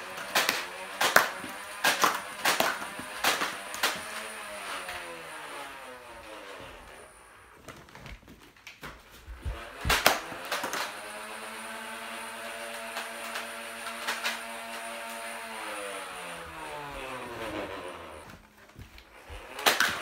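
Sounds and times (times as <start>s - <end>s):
toy blaster flywheels whirring: 0.0s - 7.6s, 9.4s - 20.0s.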